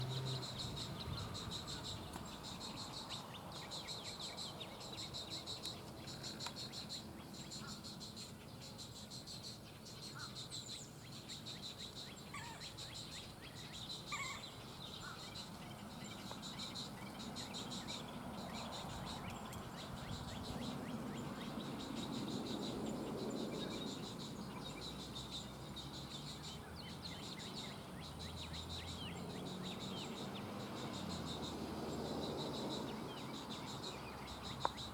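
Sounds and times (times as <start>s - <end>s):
insects trilling chorus: 0.0s - 34.9s.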